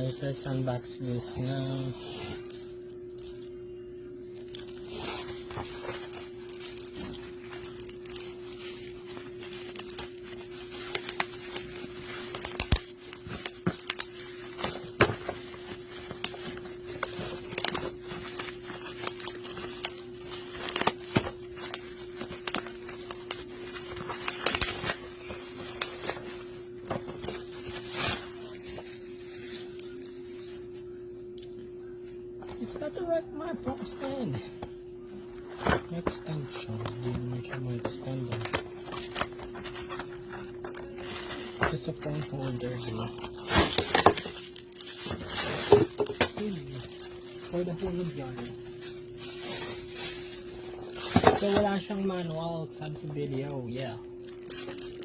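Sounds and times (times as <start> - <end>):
packaging rustling and tearing: 0.0 - 3.5, 4.3 - 30.6, 35.4 - 55.0
steady low hum: 0.0 - 55.0.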